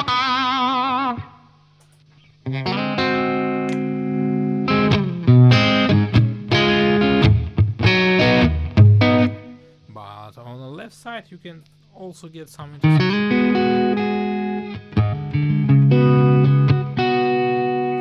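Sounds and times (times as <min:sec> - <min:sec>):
overdriven electric guitar: 0:00.0 - 0:09.8, 0:12.8 - 0:18.0.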